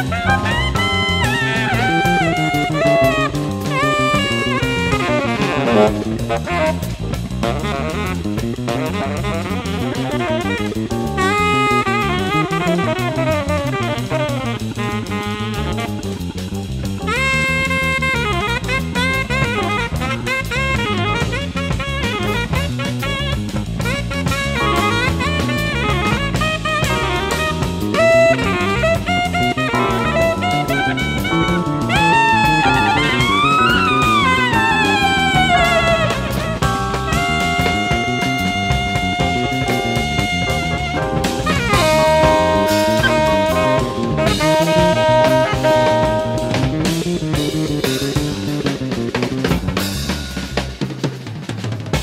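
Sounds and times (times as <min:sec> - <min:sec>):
sliding lead melody: 0:00.0 - 0:51.1
bass: 0:00.0 - 0:52.0
busy drum kit: 0:00.0 - 0:52.0
jazz fusion band playing: 0:00.0 - 0:52.0.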